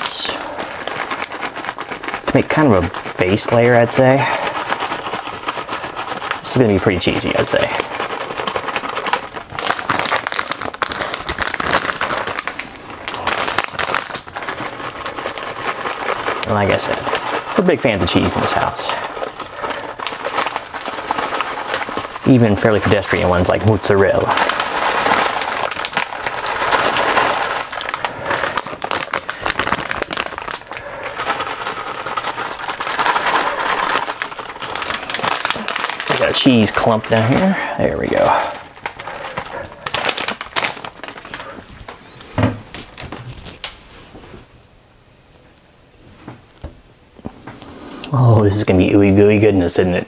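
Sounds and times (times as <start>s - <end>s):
plastic bag crinkling: 0.0s - 44.5s, 47.2s - 50.0s.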